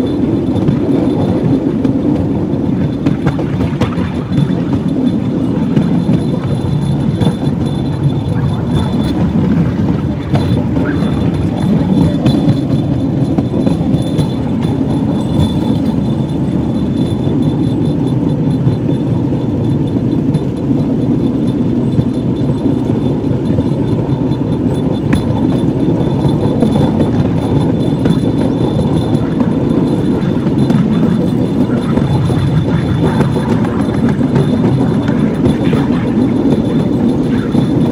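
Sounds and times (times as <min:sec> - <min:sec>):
light rail wheels rumbling on rails: 0:00.0 - 0:37.9
faint high whine: 0:02.8 - 0:37.9.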